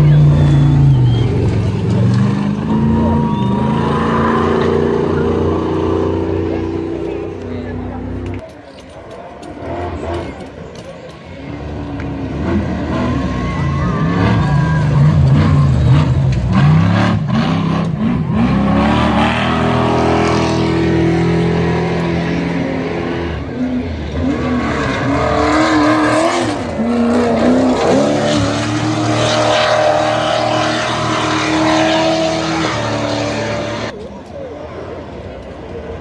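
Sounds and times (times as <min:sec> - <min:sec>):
race truck engines revving: 0:00.0 - 0:36.0.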